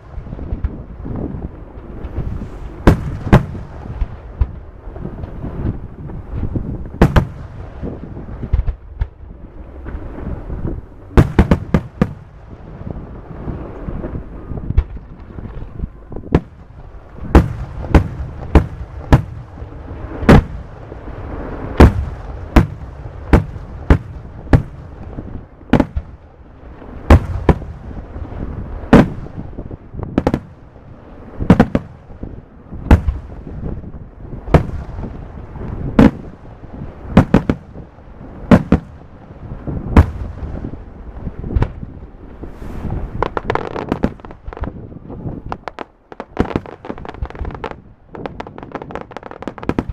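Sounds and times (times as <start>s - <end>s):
continuous rumble: 0.0s - 49.9s.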